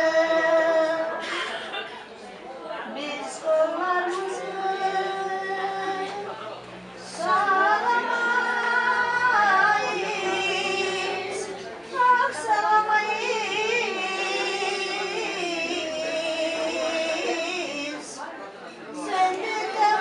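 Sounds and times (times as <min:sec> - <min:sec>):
women singing folk song: 0:00.0 - 0:01.7, 0:02.9 - 0:18.2, 0:18.9 - 0:20.0.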